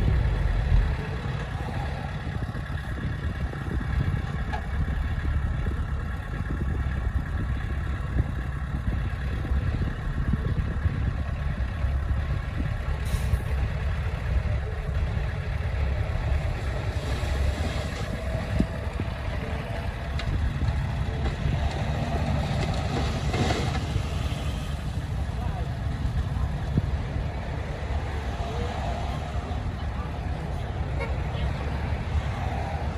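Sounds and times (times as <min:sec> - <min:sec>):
heavy diesel engine rumbling: 0:00.0 - 0:32.9.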